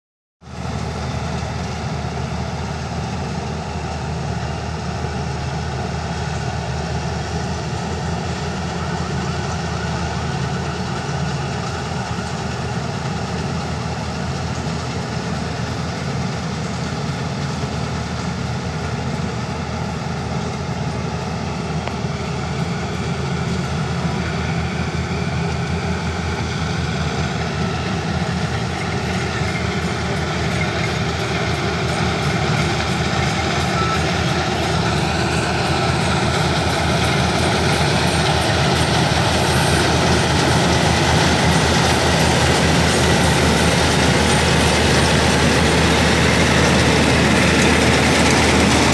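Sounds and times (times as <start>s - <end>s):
combine harvester engine drone: 0.4s - 48.9s.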